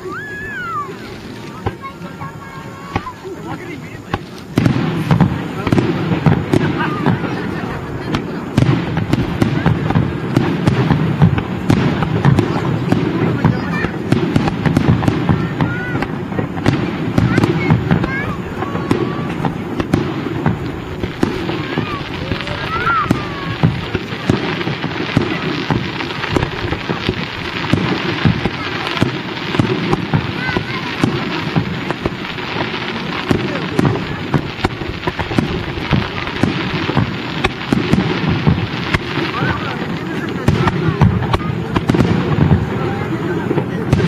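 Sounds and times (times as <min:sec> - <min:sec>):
firework shells bursting: 0:00.0 - 0:44.0
steady crackle: 0:00.0 - 0:44.0.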